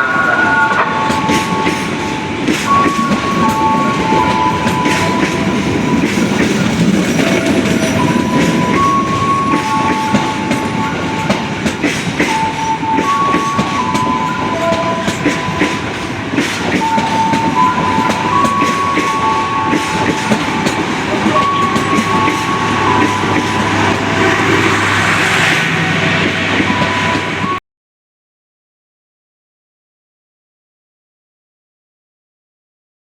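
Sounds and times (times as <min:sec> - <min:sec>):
train wheels clattering: 0:00.1 - 0:27.6.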